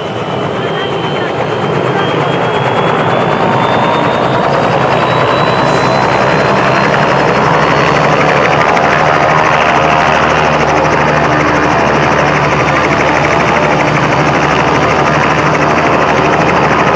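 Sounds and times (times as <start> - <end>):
helicopter rotor chop: 0.0 - 16.9
high turbine whine: 0.0 - 16.9.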